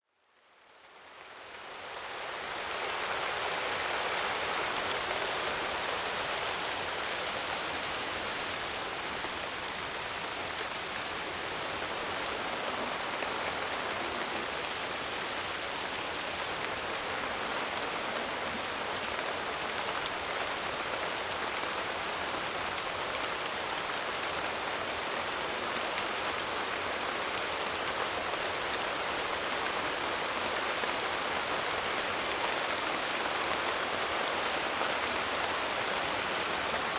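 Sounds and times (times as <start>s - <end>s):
steady rain hiss: 0.2s - 36.9s.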